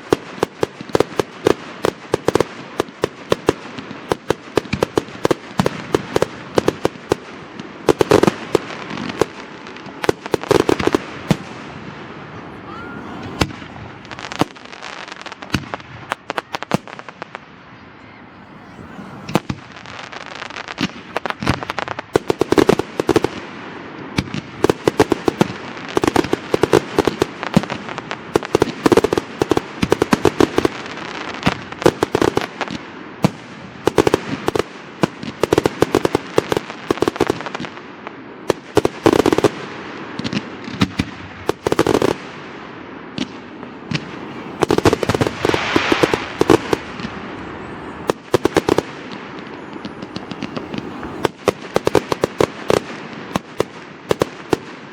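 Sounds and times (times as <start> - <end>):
fireworks crackling: 0.0 - 54.9.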